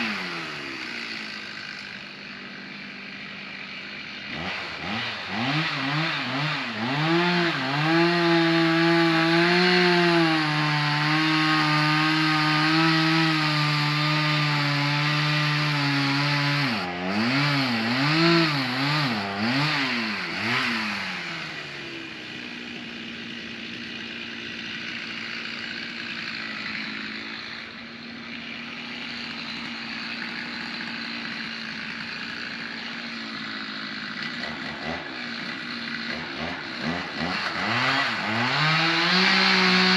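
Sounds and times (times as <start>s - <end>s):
chainsaw revving and cutting: 0.0s - 39.9s.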